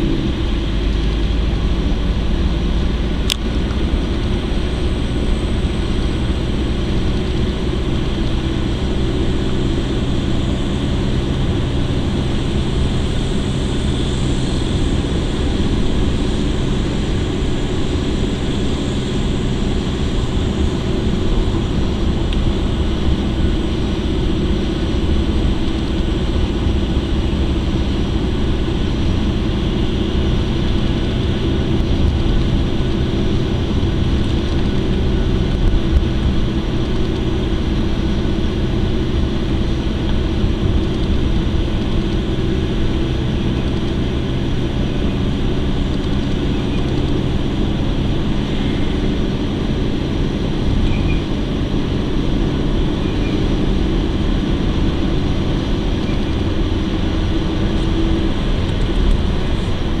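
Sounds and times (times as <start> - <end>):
car engine hum: 0.0 - 60.0
road noise: 0.0 - 60.0.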